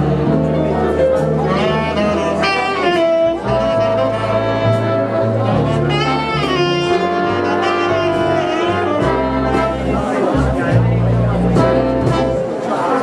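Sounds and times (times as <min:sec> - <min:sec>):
jazzy instrumental with horns: 0:00.0 - 0:13.0.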